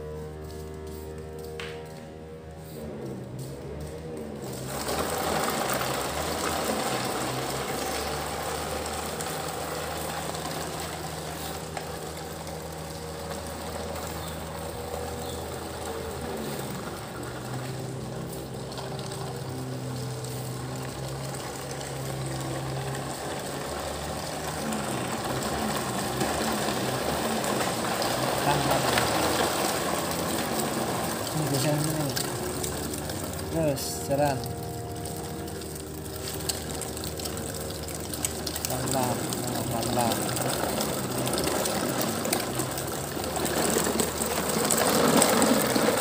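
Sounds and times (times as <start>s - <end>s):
motorised toy vehicle humming: 0.0s - 46.0s.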